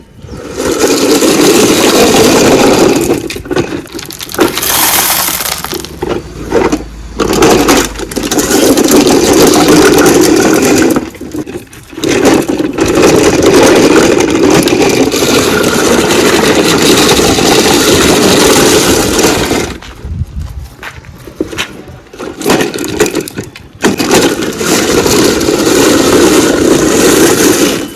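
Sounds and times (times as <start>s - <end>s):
toy excavator scraping sand: 0.0s - 19.8s, 21.4s - 27.9s.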